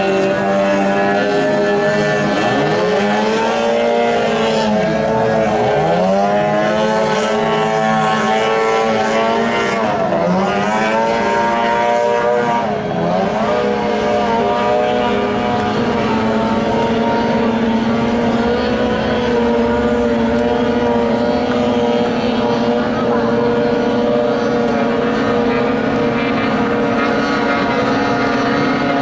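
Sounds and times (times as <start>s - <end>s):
racing boat engines at high revs: 0.0s - 29.0s.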